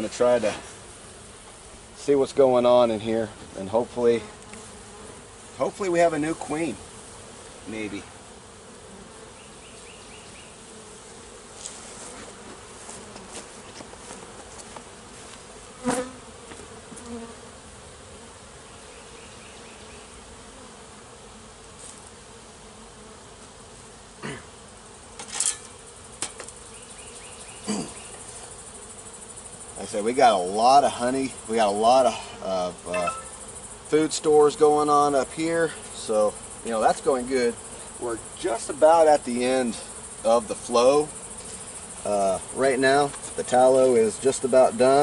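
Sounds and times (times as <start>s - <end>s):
honey bees buzzing: 0.0s - 45.0s.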